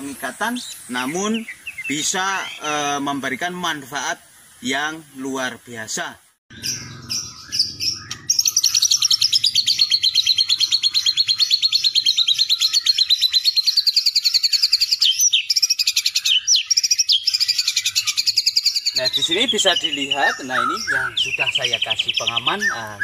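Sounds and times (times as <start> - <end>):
bird trilling and chirping: 0.0 - 3.6, 6.5 - 23.0.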